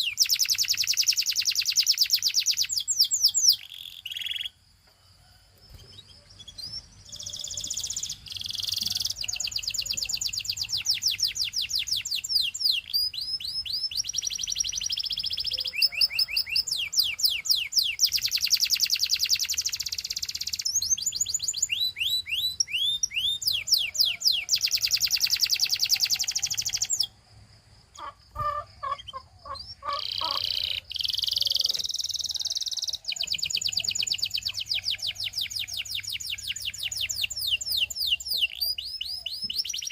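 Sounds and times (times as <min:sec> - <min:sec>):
canary singing trills: 0:00.0 - 0:04.6, 0:05.6 - 0:27.2, 0:27.9 - 0:39.9.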